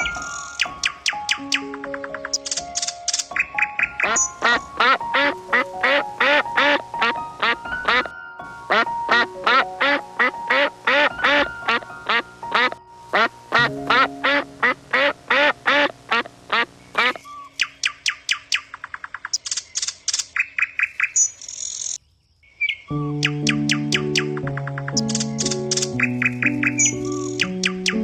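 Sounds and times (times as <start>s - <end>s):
background music: 0.0s - 17.8s, 22.9s - 28.0s
high chirping calls: 0.0s - 28.0s.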